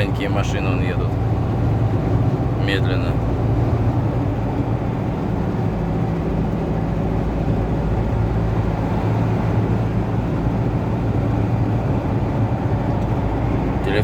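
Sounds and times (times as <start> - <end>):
car engine hum: 0.0 - 14.0
tyre and road noise: 0.0 - 14.0.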